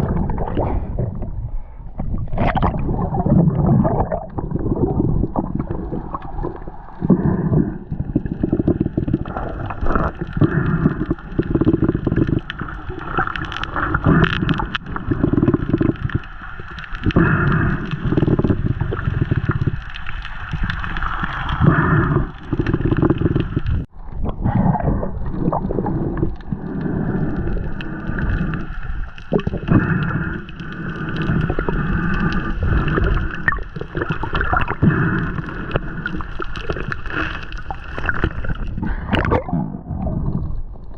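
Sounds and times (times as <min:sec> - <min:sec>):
seawater gurgling and sloshing: 0:00.0 - 0:40.9.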